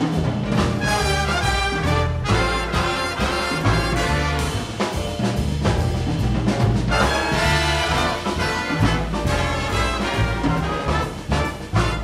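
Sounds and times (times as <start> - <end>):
big band playing jazz: 0.0 - 12.0.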